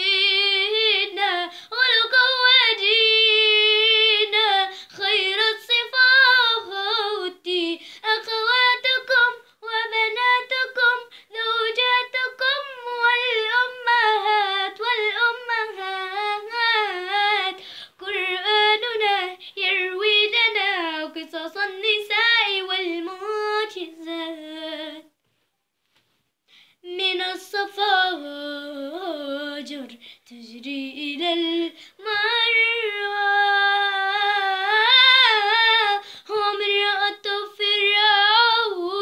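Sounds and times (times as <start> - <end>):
girl singing unaccompanied: 0.0 - 25.2, 26.7 - 39.0.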